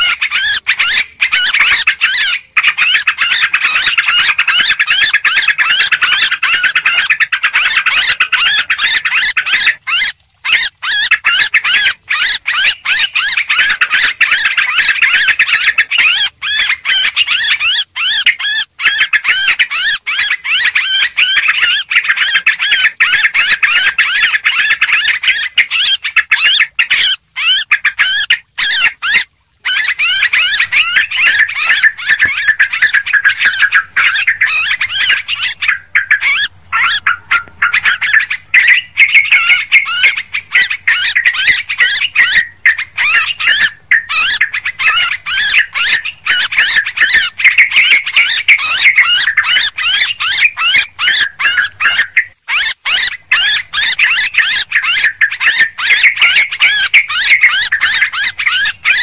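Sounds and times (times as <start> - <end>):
bulbuls chattering: 0.0 - 59.0.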